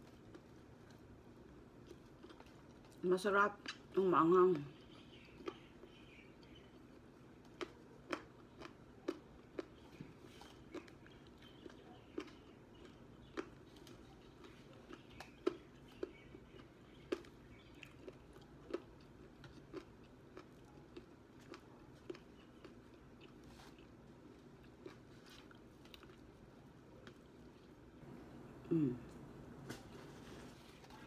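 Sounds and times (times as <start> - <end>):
person chewing: 0.0 - 3.0, 4.8 - 27.8
faint steady hum: 0.0 - 31.0.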